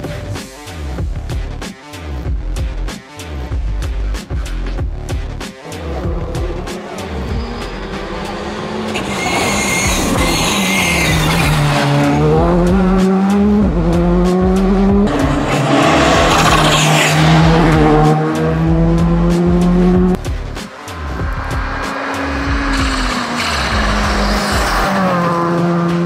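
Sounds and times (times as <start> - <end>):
rally car engine revving: 5.1 - 26.0.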